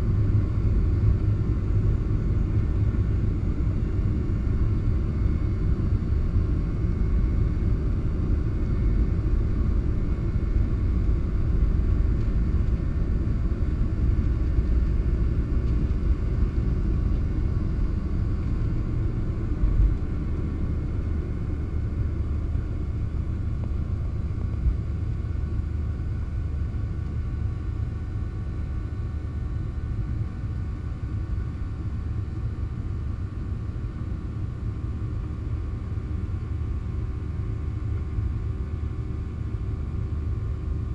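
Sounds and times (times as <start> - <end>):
airliner engine rumble in flight: 0.0 - 40.9.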